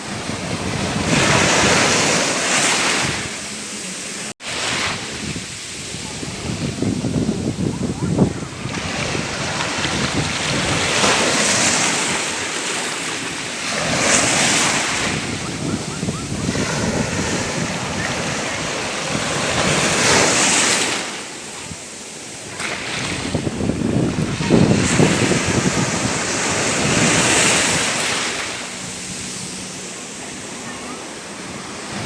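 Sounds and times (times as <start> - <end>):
sea waves breaking on shore: 0.0 - 32.0.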